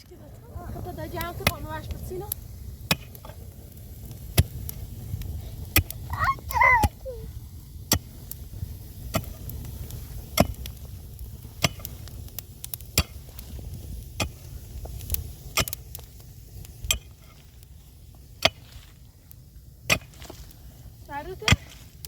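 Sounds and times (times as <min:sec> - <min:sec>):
steady low rumble: 0:00.0 - 0:18.4.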